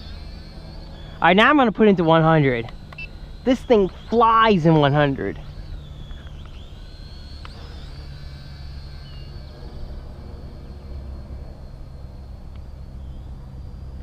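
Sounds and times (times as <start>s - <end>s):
quadcopter motors whining: 0.0s - 14.0s
steady low rumble: 0.0s - 14.0s.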